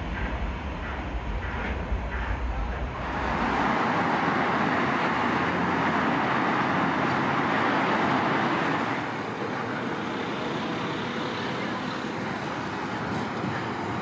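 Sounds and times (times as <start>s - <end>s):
cars and tyres passing: 0.0s - 14.0s.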